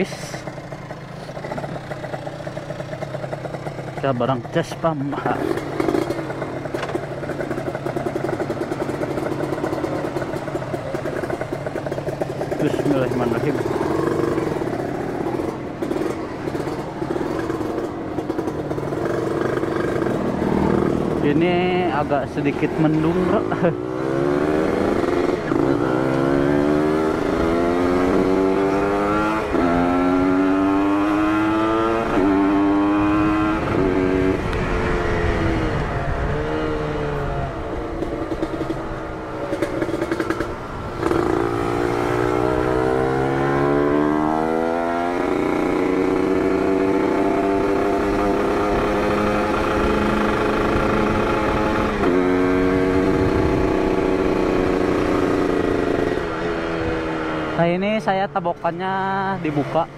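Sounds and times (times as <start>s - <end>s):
motorcycle accelerating hard: 0.0s - 59.9s.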